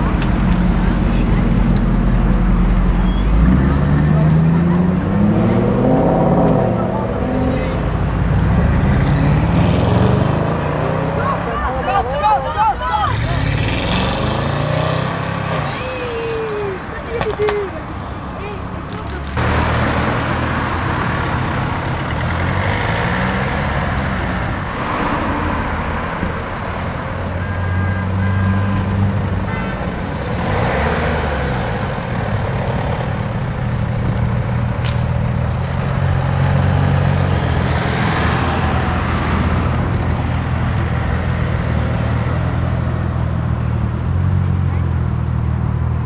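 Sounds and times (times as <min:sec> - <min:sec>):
cars driving past: 0:00.0 - 0:46.0.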